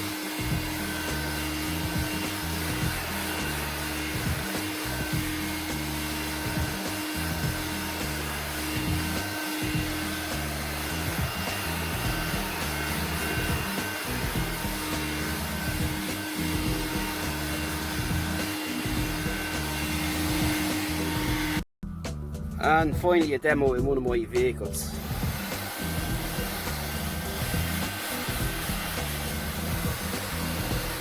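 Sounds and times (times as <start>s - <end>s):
handheld vacuum cleaner whirring: 0.0s - 21.6s, 24.9s - 31.0s
background music: 0.0s - 31.0s.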